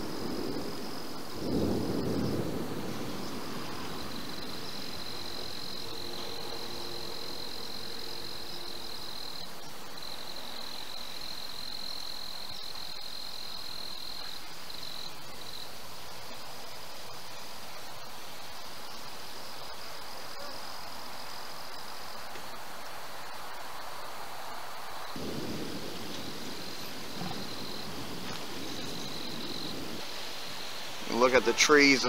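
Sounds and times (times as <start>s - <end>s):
insects trilling: 0.0s - 32.0s
soft rush of wind: 0.0s - 32.0s.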